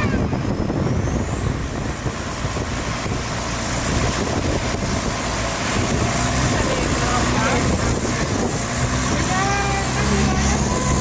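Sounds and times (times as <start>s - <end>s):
wind on microphone: 0.0s - 11.0s
motorboat engine running: 1.5s - 11.0s.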